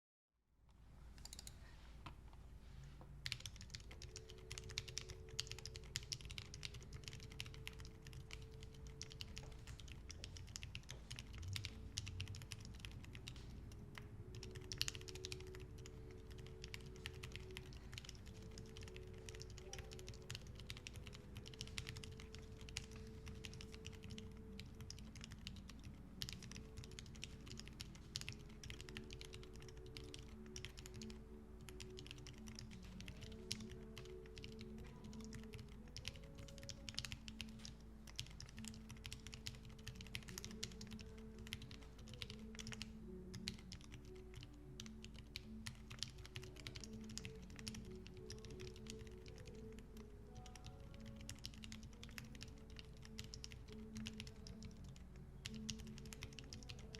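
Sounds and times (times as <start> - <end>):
soft background music: 0.8 - 56.9
muted mechanical keyboard typing: 1.2 - 1.6, 3.2 - 56.9.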